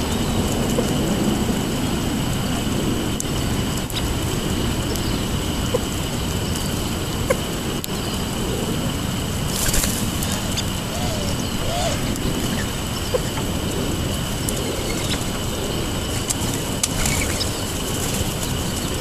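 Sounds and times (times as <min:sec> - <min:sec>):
low outdoor rumble: 0:00.0 - 0:19.0
birds pecking on asphalt: 0:00.1 - 0:19.0.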